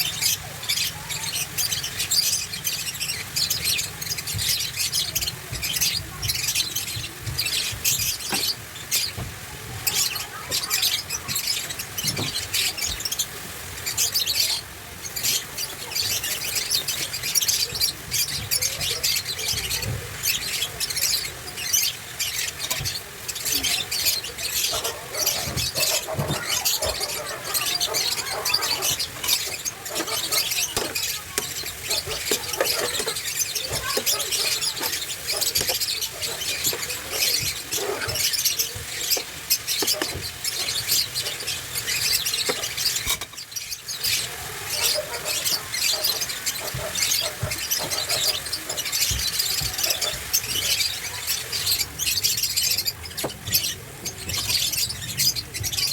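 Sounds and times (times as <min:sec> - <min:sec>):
vegetables sizzling in hot oil: 0:00.1 - 0:55.6.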